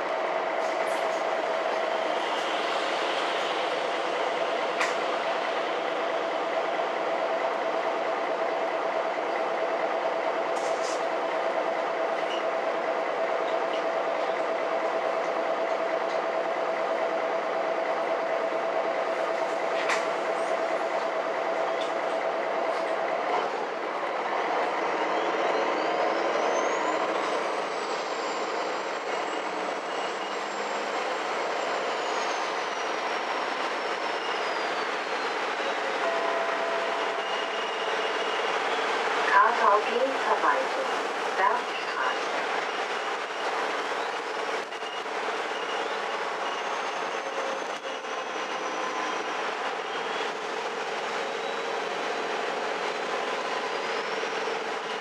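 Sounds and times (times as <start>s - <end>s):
bus interior running noise: 0.0s - 55.0s.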